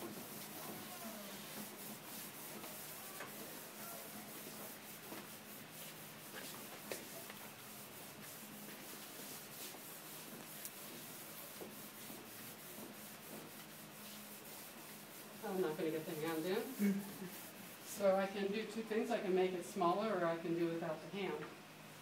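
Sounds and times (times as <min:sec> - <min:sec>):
charcoal scratching on paper: 0:00.1 - 0:17.8.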